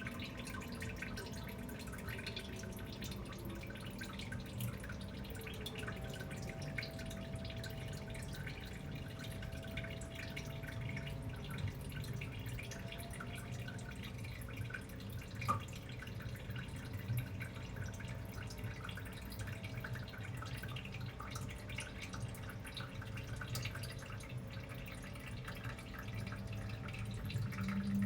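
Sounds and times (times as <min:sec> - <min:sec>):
water dripping and splashing: 0:00.0 - 0:28.0.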